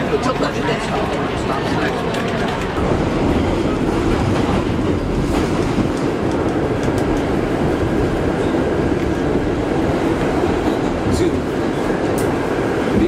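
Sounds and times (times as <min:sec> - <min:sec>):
subway wheels rumbling on rails: 0:00.0 - 0:13.0.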